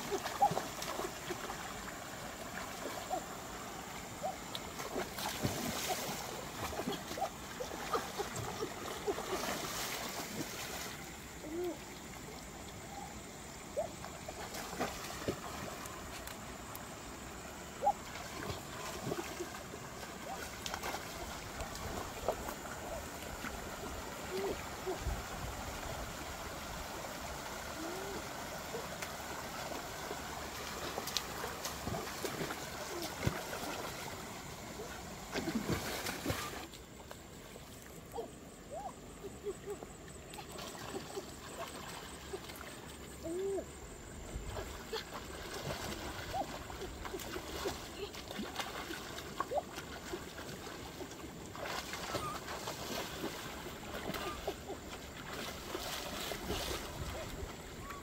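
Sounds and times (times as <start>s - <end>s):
background hiss: 0.0s - 48.4s
water splashing and trickling: 0.0s - 58.0s.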